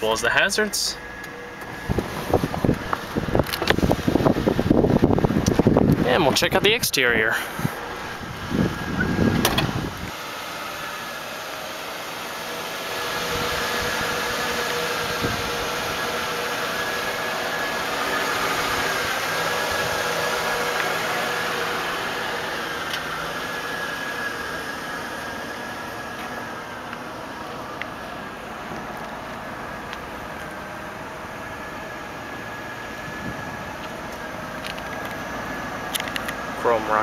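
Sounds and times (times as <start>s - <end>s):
engine idling with hiss and whine: 0.0s - 37.0s.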